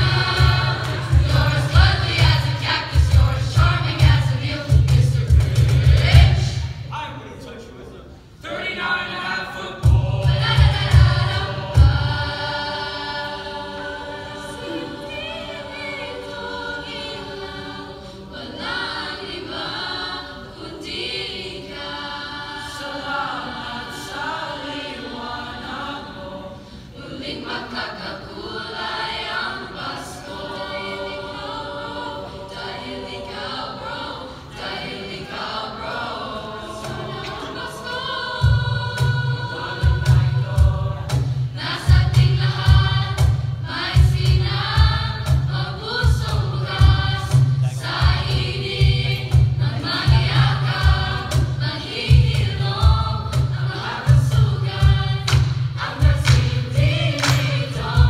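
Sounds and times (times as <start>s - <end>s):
youth choir singing a carol: 0.0s - 6.9s, 8.4s - 58.0s.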